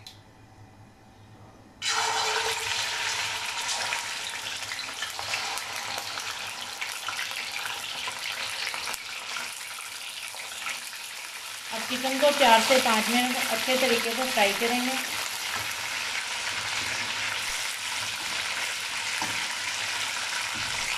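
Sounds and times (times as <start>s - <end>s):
chicken sizzling in hot oil: 1.8s - 20.9s.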